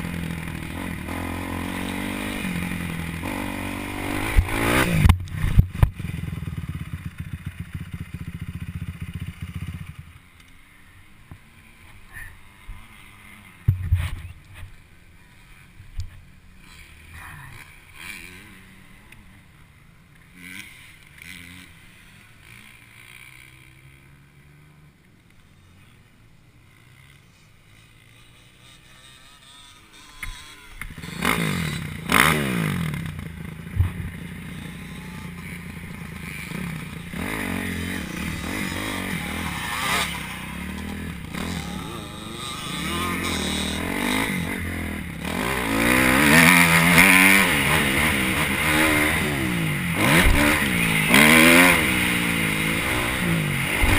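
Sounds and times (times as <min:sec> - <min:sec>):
motorcycle engine revving: 0:00.0 - 0:10.9, 0:16.6 - 0:26.0, 0:26.6 - 0:53.9.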